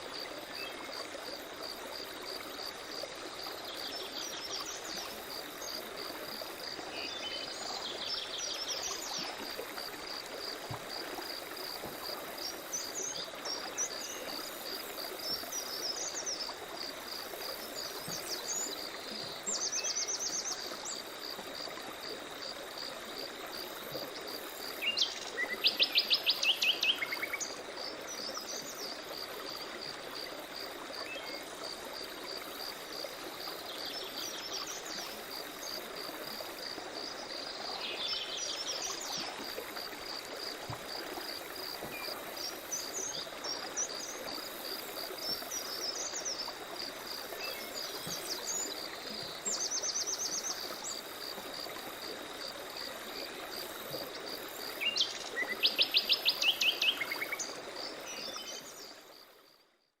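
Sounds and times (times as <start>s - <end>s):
stream running: 0.0s - 59.8s.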